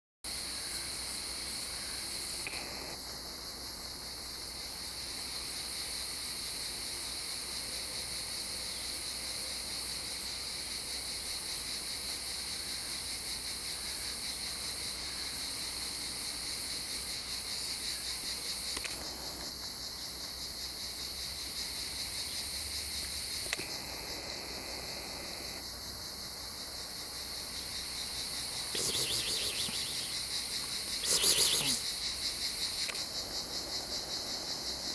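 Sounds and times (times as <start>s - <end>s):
chirring insects: 0.3s - 34.9s.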